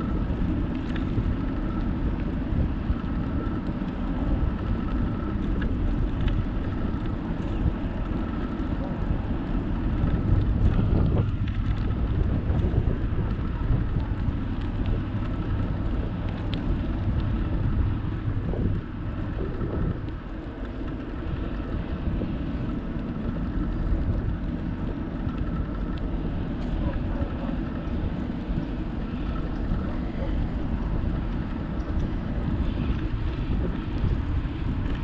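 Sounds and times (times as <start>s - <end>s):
faint steady whine: 0.0s - 35.0s
wind buffeting microphone: 0.0s - 35.0s.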